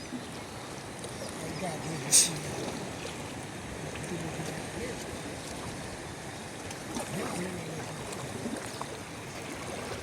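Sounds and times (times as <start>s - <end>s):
sea water rushing: 0.0s - 10.0s.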